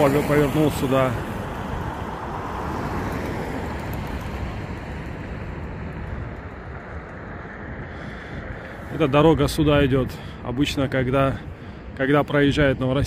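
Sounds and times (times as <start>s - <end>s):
passing vehicle tyres and engine: 0.0s - 13.0s.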